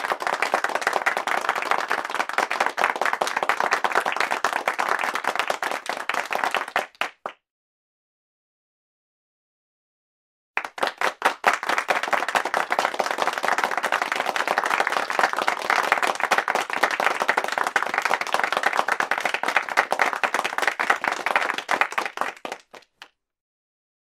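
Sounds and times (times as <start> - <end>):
crowd applause: 0.0 - 7.4, 10.6 - 23.1.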